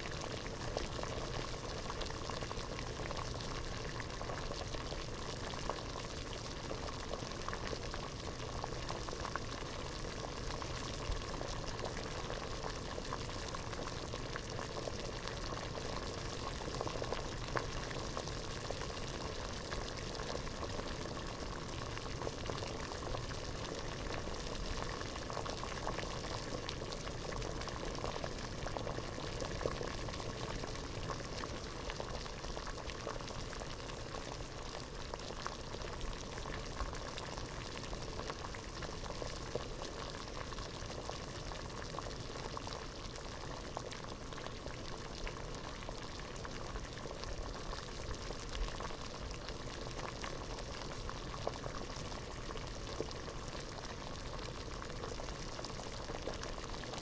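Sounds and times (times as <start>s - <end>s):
water boiling in a pot: 0.0s - 57.0s.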